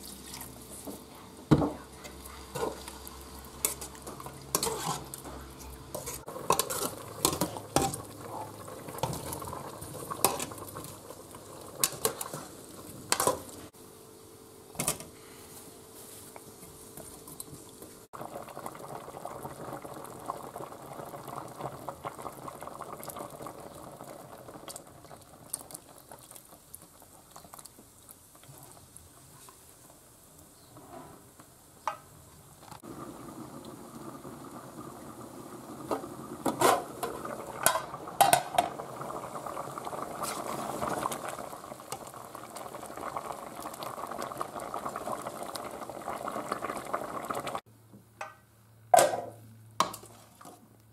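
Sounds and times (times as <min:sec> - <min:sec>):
stew bubbling in a pot: 0:00.0 - 0:13.8, 0:16.3 - 0:47.7.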